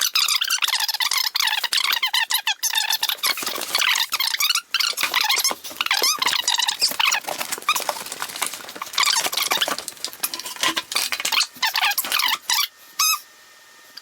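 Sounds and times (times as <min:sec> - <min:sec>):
foam packaging squeaking: 0:00.0 - 0:13.2.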